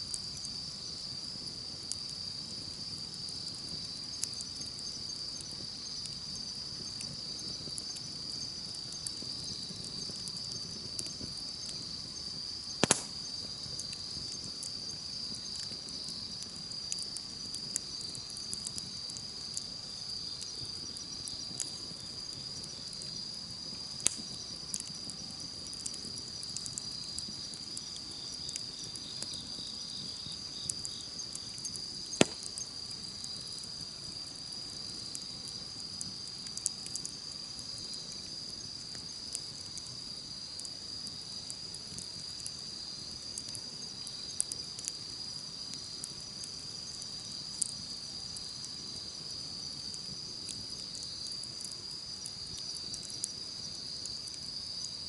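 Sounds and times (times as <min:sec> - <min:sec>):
campfire crackling and popping: 0:00.0 - 0:55.0
insects chirring: 0:00.0 - 0:55.0.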